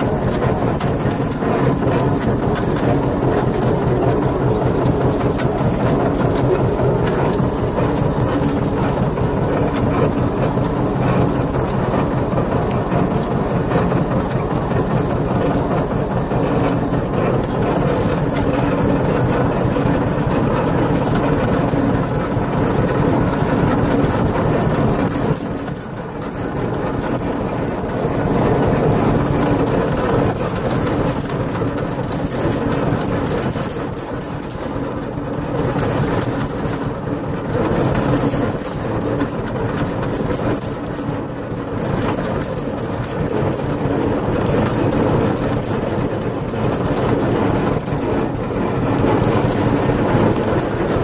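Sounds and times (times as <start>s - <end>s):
manure spreader chain rattling: 0.0s - 51.0s
tractor engine running: 0.0s - 51.0s.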